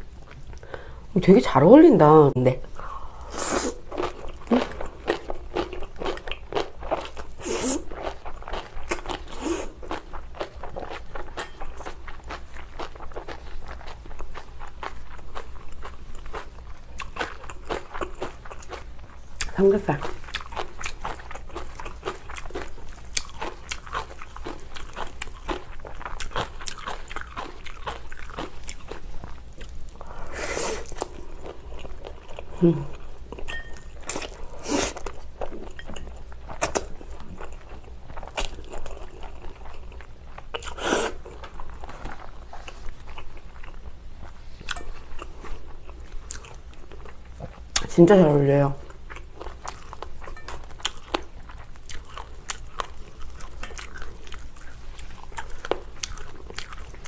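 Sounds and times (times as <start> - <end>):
wet chewing and crunchy bites: 3.8 - 30.0, 33.3 - 47.9, 48.9 - 57.0.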